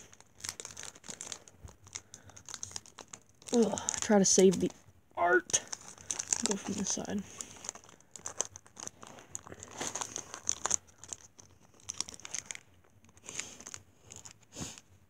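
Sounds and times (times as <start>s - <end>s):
foil wrapper crinkling: 0.0s - 14.8s.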